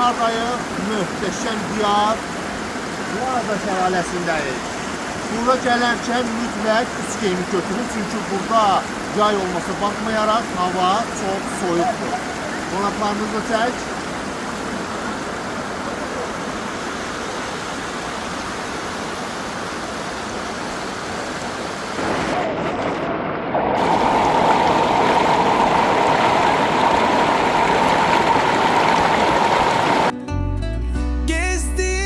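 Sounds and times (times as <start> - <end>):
waterfall rushing water: 0.0 - 23.2, 23.8 - 30.1.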